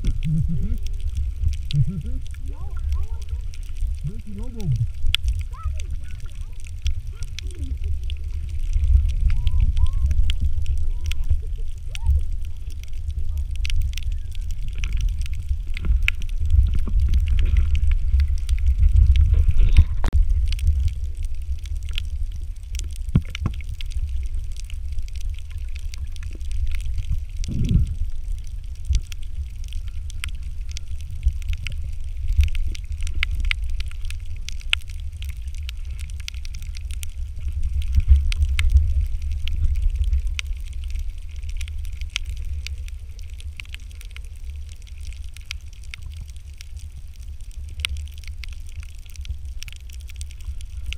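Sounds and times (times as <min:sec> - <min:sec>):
muffled underwater water rumble: 0:00.0 - 0:50.9
sharp underwater clicks and crackles: 0:00.0 - 0:50.9.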